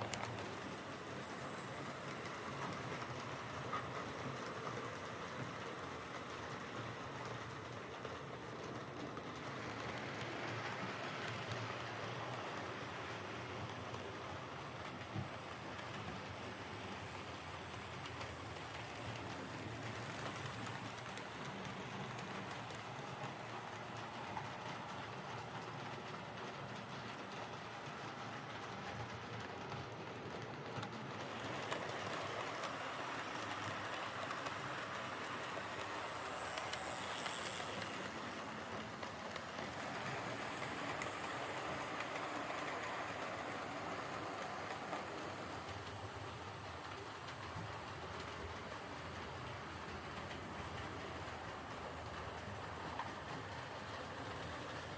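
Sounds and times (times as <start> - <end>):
model train motor whirring: 0.0 - 27.8, 30.2 - 54.9.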